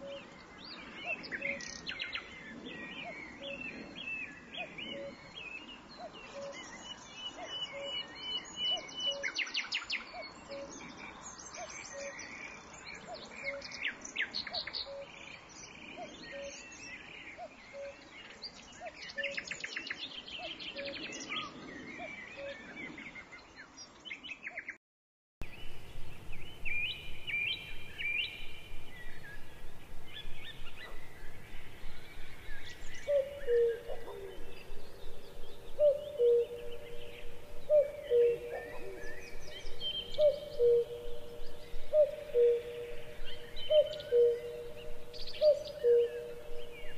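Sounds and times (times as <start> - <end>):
birds chirping and trilling: 0.0 - 24.8, 25.4 - 46.9.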